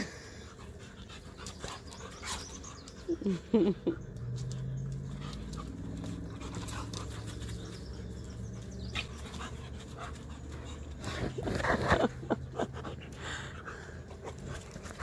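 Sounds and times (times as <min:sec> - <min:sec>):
dogs panting: 0:00.0 - 0:15.0.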